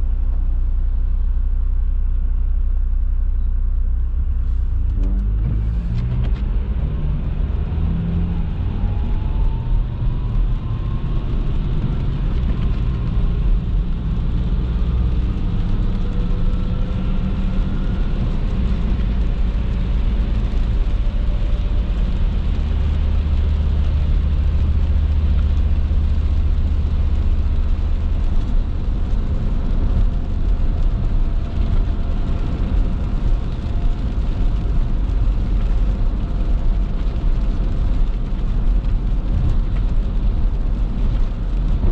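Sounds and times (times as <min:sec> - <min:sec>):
car engine and tyres on wet road: 0:00.0 - 0:41.9.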